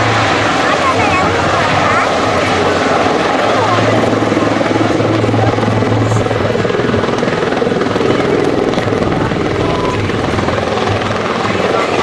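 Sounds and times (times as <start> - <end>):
tiltrotor aircraft rotor beat: 0.0 - 12.0.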